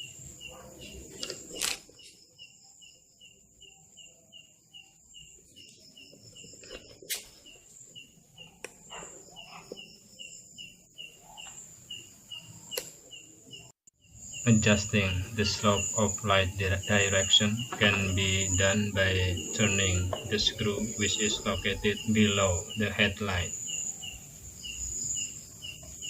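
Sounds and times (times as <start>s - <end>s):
cricket chirping: 0.0s - 26.0s
high insect trill: 0.0s - 26.0s.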